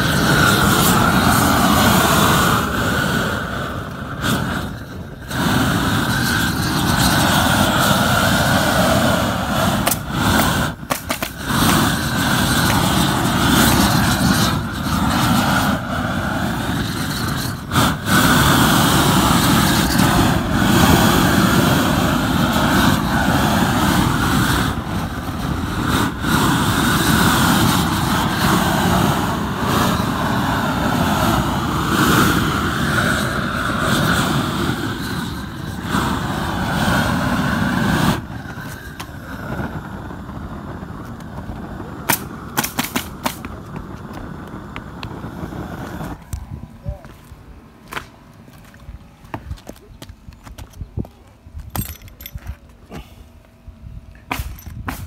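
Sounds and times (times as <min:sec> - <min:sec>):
roofing torch flame rushing: 0:00.0 - 0:49.5.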